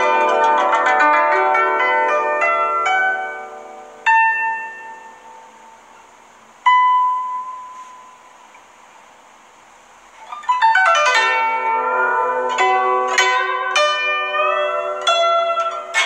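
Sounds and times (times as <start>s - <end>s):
guzheng plucked notes: 0.0s - 16.0s.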